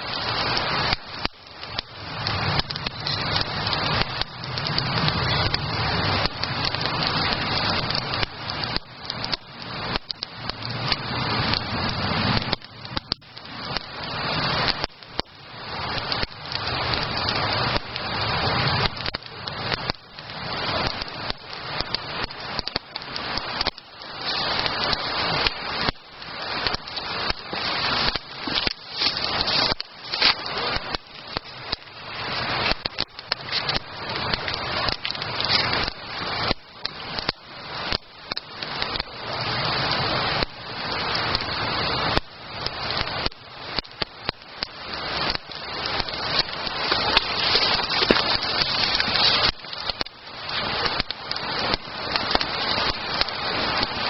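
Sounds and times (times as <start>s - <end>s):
campfire crackling and popping: 0.0s - 54.0s
fire hissing: 0.0s - 54.0s.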